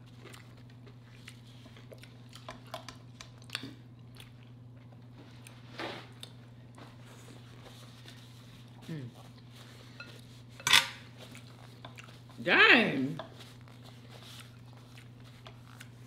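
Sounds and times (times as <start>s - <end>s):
person chewing food: 0.0s - 12.4s, 13.2s - 16.0s.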